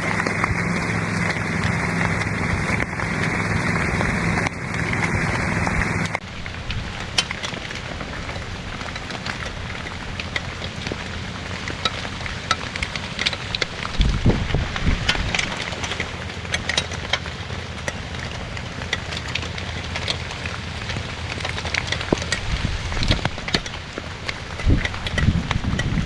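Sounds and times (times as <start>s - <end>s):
heavy rain falling: 0.0s - 26.0s
sharp raindrop hits: 0.0s - 26.0s.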